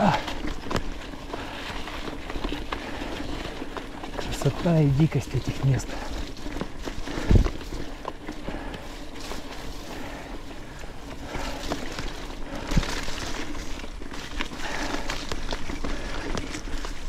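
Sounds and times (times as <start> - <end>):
bike clicks and knocks: 0.0 - 4.7, 6.1 - 17.0
bike tyres over stones: 0.0 - 17.0.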